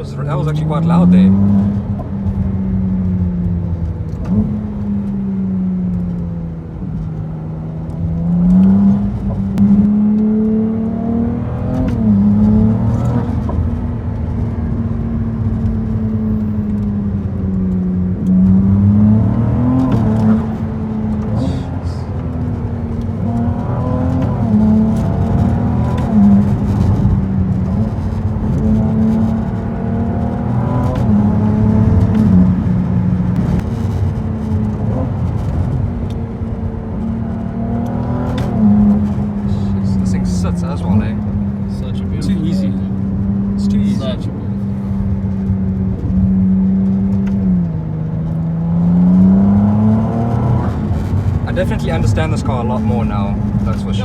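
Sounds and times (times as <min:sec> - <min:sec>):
car engine revving from inside: 0:00.0 - 0:54.0.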